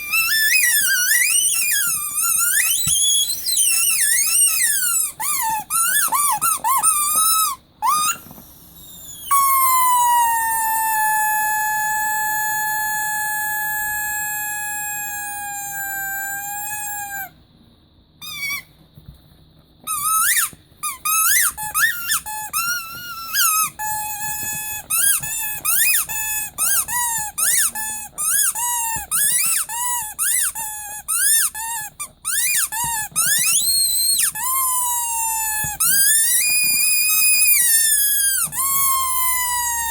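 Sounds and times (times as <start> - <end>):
squeaky rubber toy squeaking: 0.0 - 17.3, 18.2 - 18.7, 19.8 - 39.9.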